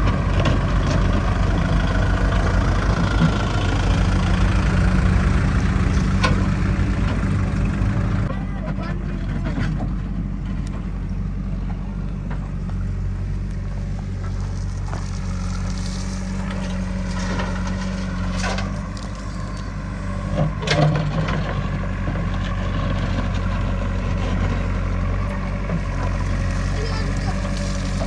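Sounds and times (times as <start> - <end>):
diesel machinery engine running: 0.0 - 28.0.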